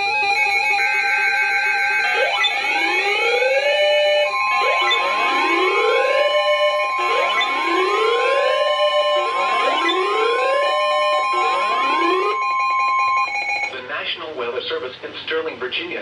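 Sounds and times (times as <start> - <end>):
steady electronic tones: 0.0 - 13.8
steady high tone: 0.0 - 13.8
whooping electronic alert: 0.0 - 13.8.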